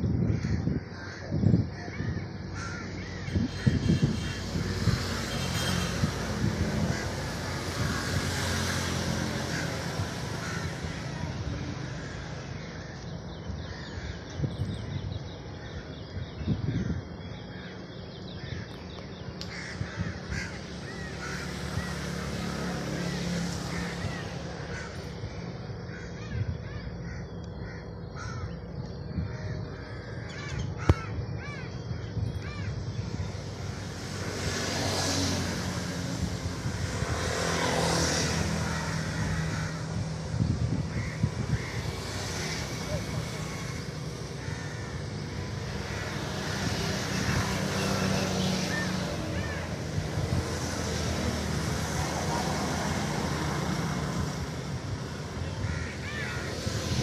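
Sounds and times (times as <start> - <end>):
birds calling: 0.0 - 57.0
outdoor background noise: 0.0 - 57.0
crow-like caws: 0.2 - 4.4, 6.7 - 14.4, 15.5 - 17.8, 19.4 - 33.8, 37.2 - 57.0.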